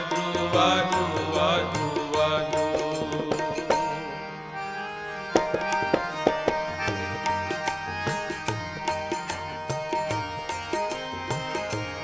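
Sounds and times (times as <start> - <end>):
harmonium chords: 0.0 - 12.0
tabla playing: 0.0 - 12.0.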